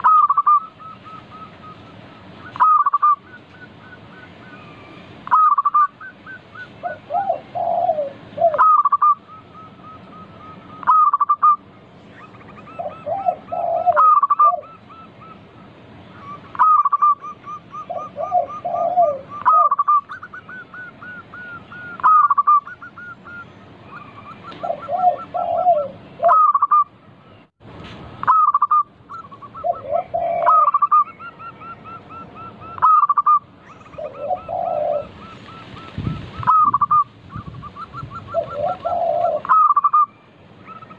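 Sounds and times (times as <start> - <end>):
dove cooing: 0.0 - 15.5, 16.1 - 26.9, 28.2 - 40.9.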